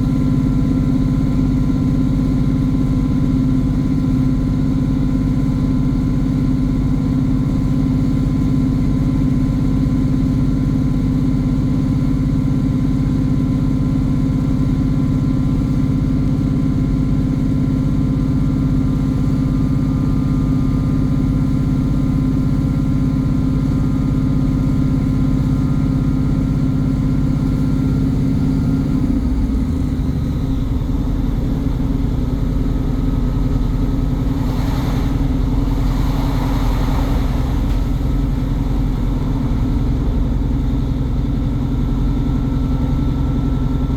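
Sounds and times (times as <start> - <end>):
train diesel engine running: 0.0 - 43.9.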